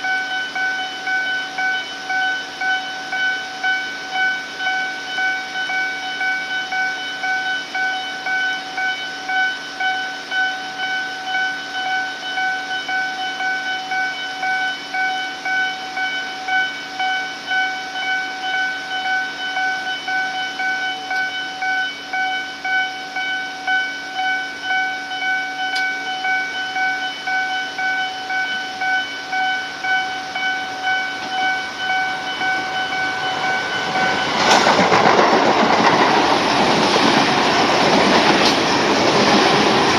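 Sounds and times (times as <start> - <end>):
level crossing warning bell: 0.0 - 39.9
train running noise: 0.0 - 39.9.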